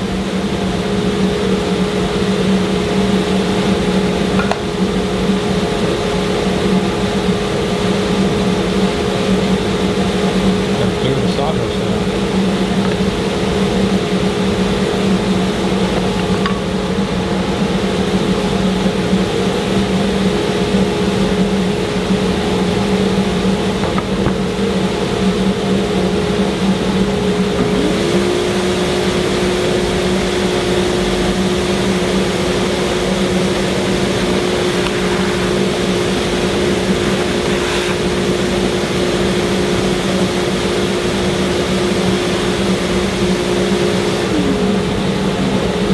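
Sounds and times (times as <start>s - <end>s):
machine motor humming: 0.0s - 45.9s.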